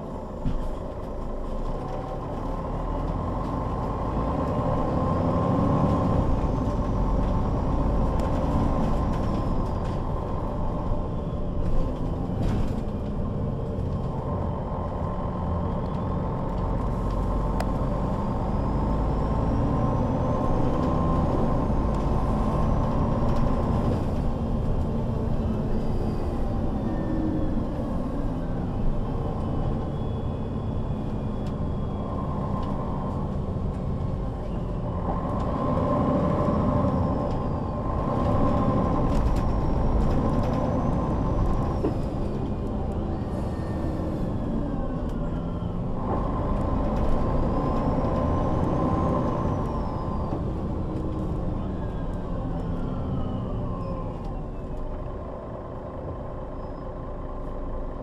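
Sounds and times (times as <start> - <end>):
bus diesel engine running: 0.0 - 58.0
road noise: 0.0 - 58.0.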